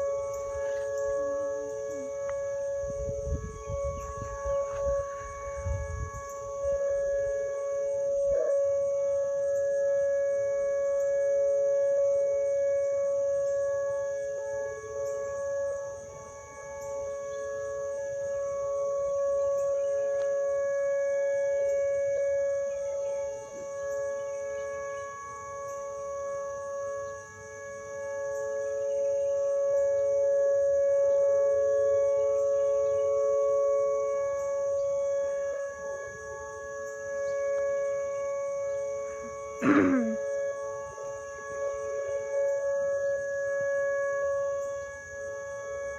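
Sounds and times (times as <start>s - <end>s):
outdoor warning sirens steady tone: 0.0s - 45.9s.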